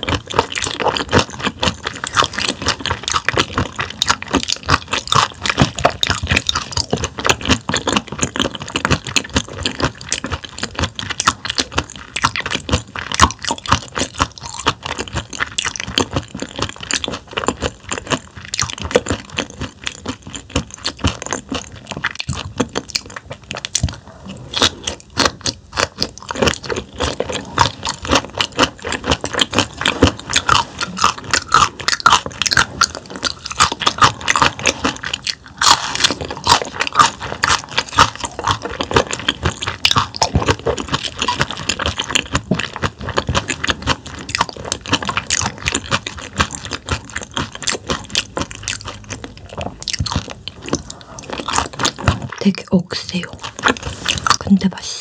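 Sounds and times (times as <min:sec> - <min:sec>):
crunchy chewing of fish bones: 0:00.0 - 0:55.0.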